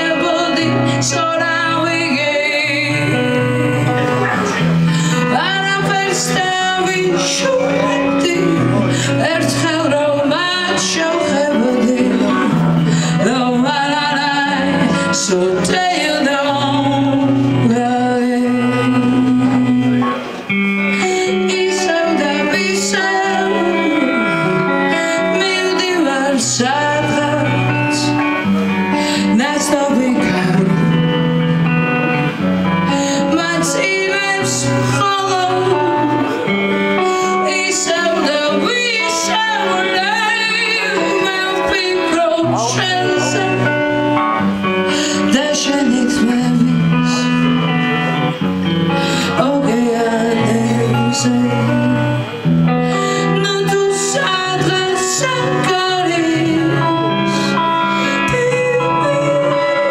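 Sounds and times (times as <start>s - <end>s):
drums: 0.0s - 59.9s
electric guitar: 0.0s - 59.9s
woman singing: 0.0s - 59.9s.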